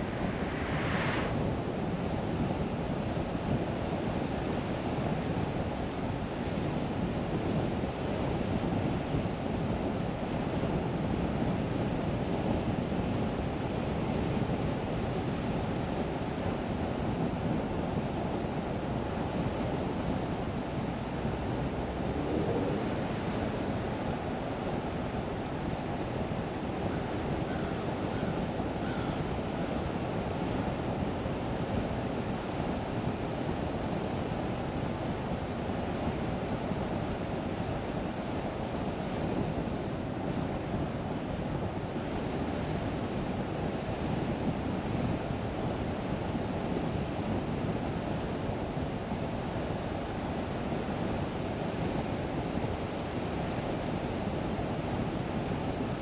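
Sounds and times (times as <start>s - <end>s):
car tyre and wind noise: 0.0s - 56.0s.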